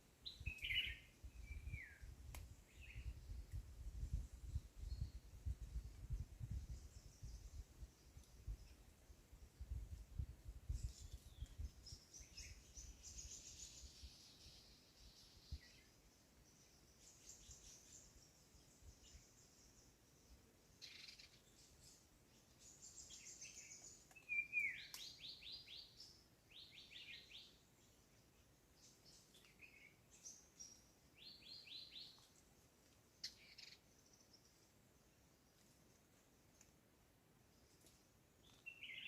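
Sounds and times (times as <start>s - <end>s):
small birds singing faintly: 0.0s - 39.0s.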